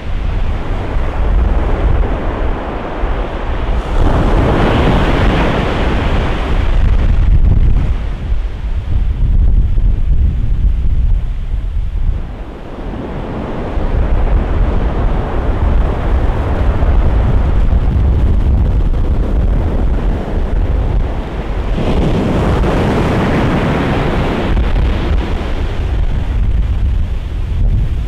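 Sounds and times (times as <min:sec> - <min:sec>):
ocean surf breaking: 0:00.0 - 0:09.3, 0:11.3 - 0:28.0
wind buffeting microphone: 0:00.0 - 0:28.0.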